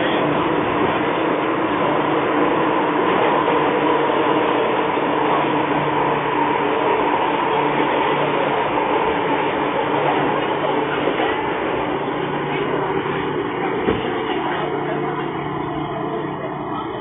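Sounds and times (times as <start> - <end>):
multi-tone train hum: 0.0 - 17.0
subway train running in tunnel: 0.0 - 17.0.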